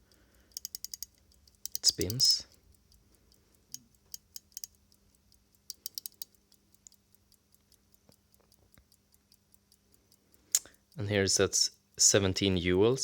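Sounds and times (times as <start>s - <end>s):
watch winding ratchet clicks: 0.0s - 11.2s
watch ticking: 0.0s - 13.0s.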